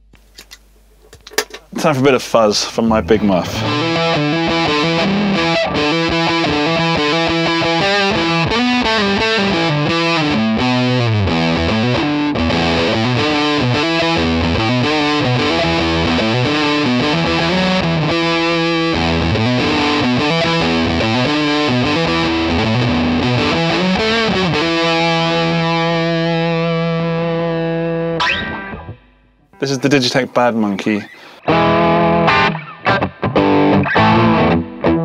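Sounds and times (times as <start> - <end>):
fuzzed electric guitar riff: 2.9 - 35.0.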